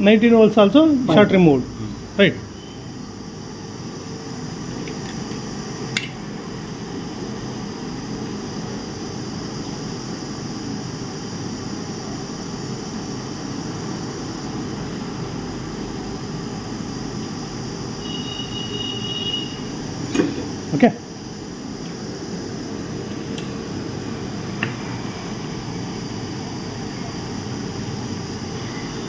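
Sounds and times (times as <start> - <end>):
fan whirring hum: 0.0 - 29.0.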